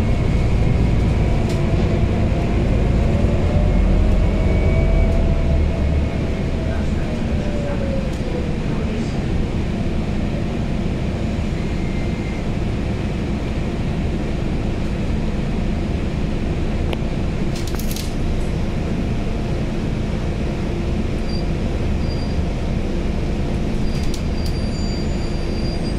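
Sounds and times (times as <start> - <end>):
bus engine drone inside cabin: 0.0 - 25.9
road noise: 0.0 - 25.9.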